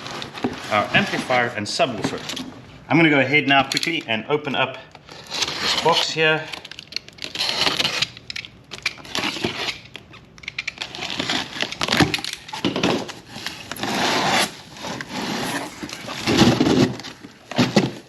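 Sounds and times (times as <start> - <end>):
cardboard and packaging rustling: 0.0 - 2.6, 5.0 - 18.0.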